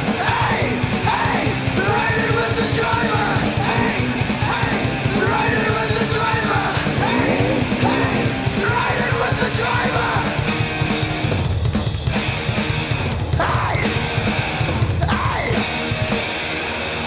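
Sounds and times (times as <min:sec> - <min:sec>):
shouted rock vocals: 0:00.0 - 0:11.4, 0:12.2 - 0:17.0
driving drum beat: 0:00.0 - 0:17.0.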